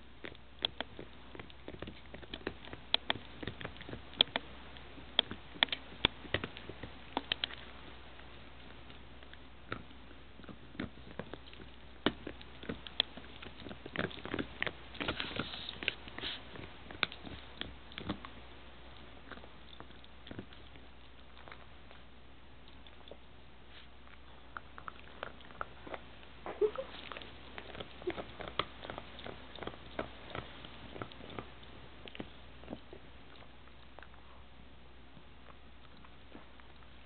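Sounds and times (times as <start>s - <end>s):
dog chewing a bone: 0.0s - 37.0s.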